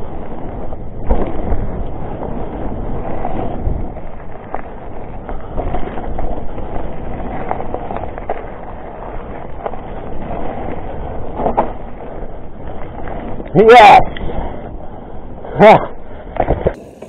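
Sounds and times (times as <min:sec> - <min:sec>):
wind on microphone: 0:00.0 - 0:16.8
bike knocking and rattling: 0:00.0 - 0:17.0
bike tyres rumbling: 0:00.0 - 0:17.0.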